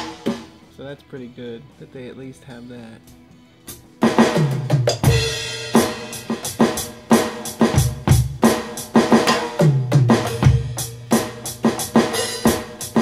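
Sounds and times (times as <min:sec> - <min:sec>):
electronic drum beat: 0:00.0 - 0:00.7, 0:03.1 - 0:13.0.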